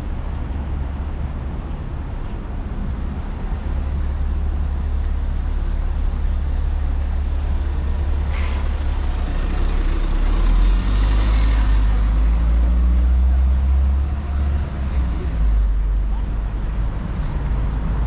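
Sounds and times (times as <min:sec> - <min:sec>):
vehicles going by: 0:00.0 - 0:18.0.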